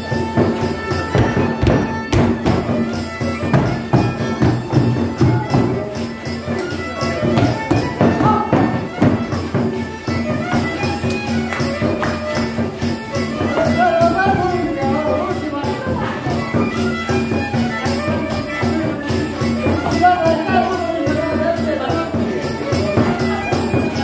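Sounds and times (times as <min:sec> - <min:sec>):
violin folk tune: 0:00.0 - 0:24.0.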